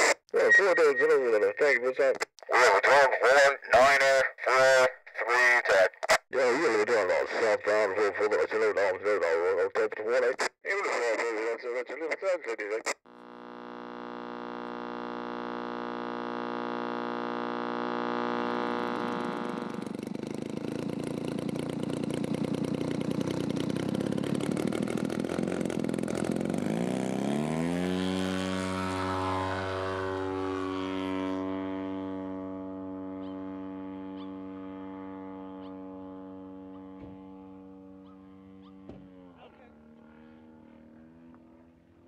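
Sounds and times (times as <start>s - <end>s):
aircraft engine and propeller roar: 0.0s - 42.0s.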